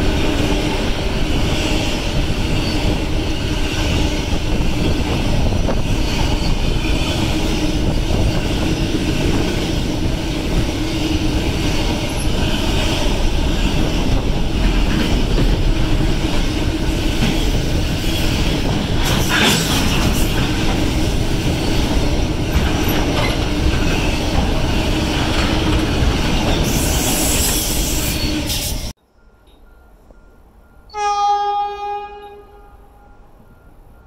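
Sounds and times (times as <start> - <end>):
freight train wheels clattering: 0.0 - 30.5.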